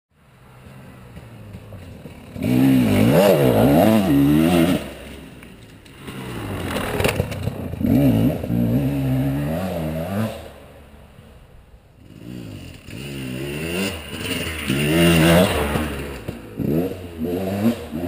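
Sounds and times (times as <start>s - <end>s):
dirt bike engine revving: 0.6s - 10.9s, 12.0s - 18.0s.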